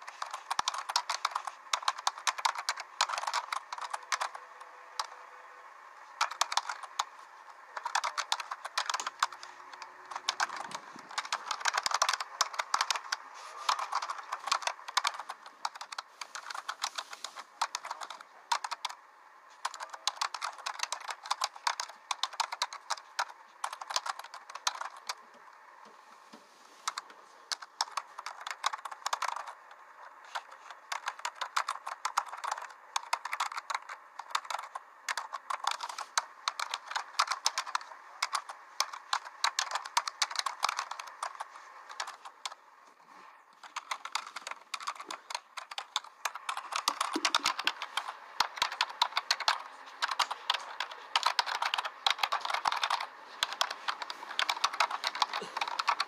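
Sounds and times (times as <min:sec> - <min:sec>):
fast irregular clicking: 0:00.0 - 0:26.2, 0:26.8 - 0:56.0.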